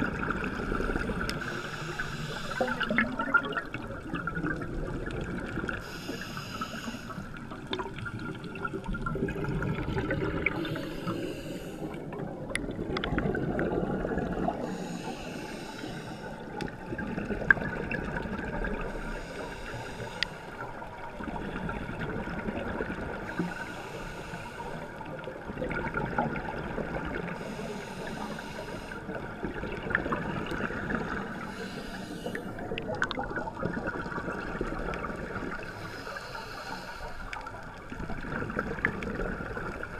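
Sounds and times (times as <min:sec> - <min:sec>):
low water rumble: 0:00.0 - 0:39.9.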